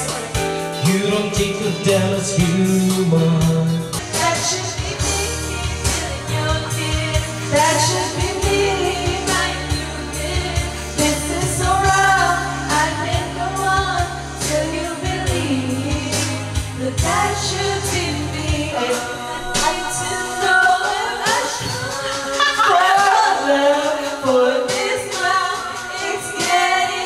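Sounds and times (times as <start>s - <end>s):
woman singing into a microphone: 0.0s - 0.8s, 4.0s - 27.0s
backing track with bass beat: 0.0s - 25.6s.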